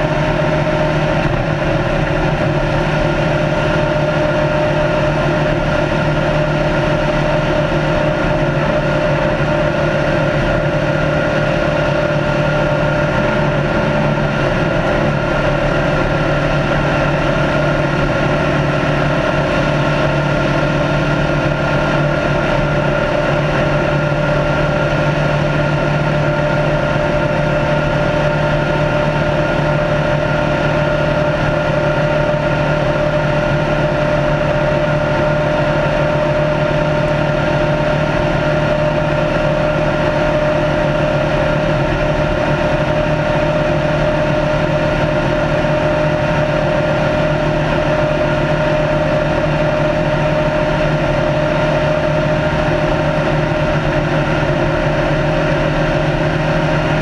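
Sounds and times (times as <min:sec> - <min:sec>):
race car engine at high speed: 0:00.0 - 0:57.0.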